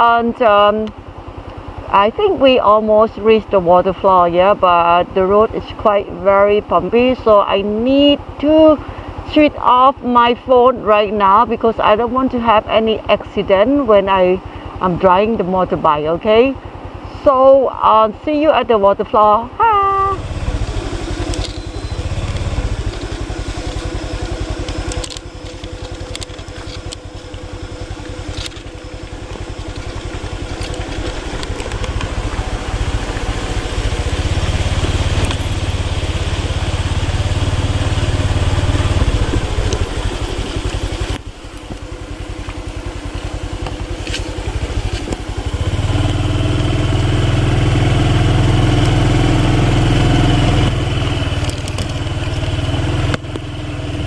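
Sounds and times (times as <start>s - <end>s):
motorbike engine running: 0.0s - 54.0s.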